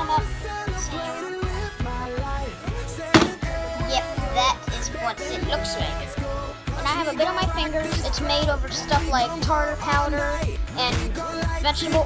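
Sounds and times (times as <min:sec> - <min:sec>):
music with melody and beat: 0:00.4 - 0:12.0.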